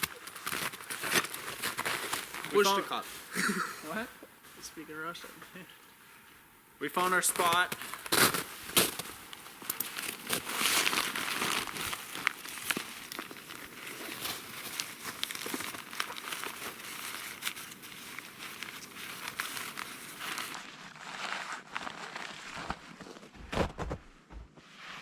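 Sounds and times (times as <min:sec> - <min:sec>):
footsteps crunching through snow: 0:00.4 - 0:05.6, 0:07.0 - 0:25.0.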